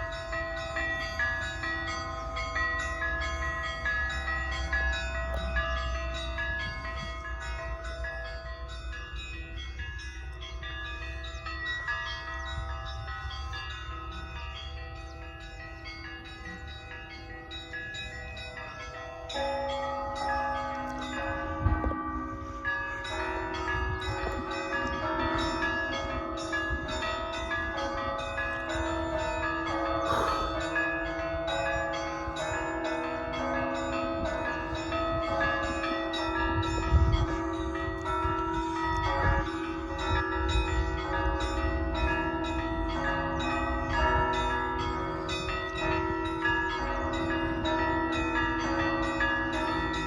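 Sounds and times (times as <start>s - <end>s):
church bells ringing: 0.0s - 50.0s.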